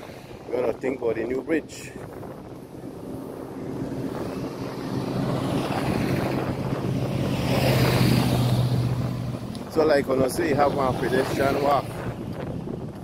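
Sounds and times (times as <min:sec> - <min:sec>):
vehicle passing close: 0:02.0 - 0:12.9.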